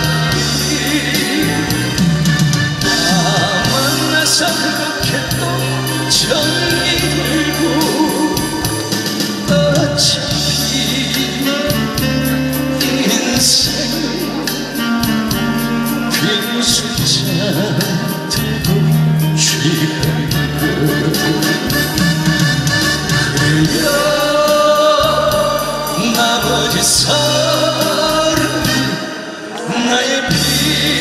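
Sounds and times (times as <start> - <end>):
backing track with bass and drums: 0.0 - 31.0
man singing into microphone: 0.0 - 31.0.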